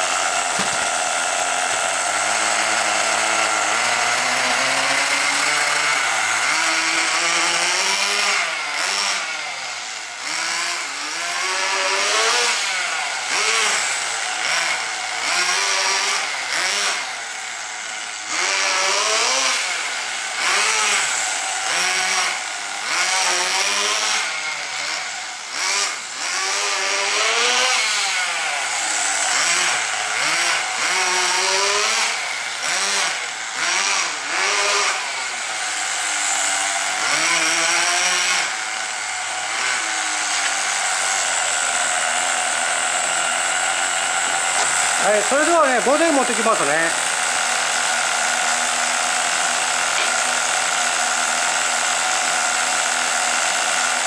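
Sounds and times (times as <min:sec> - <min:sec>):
rc car engine revving: 0:00.0 - 0:54.0.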